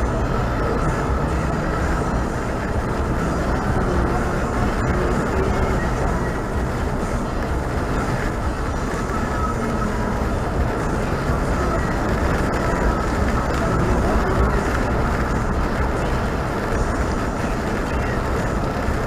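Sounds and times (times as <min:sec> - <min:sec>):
vehicle driving on highway: 0:00.0 - 0:19.0.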